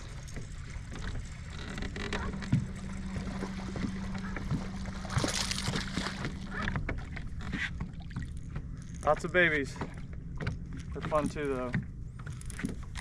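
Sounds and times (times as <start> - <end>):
water splashing: 0.0 - 11.8
boat engine rumble: 0.0 - 13.0
steady hum: 0.0 - 13.0.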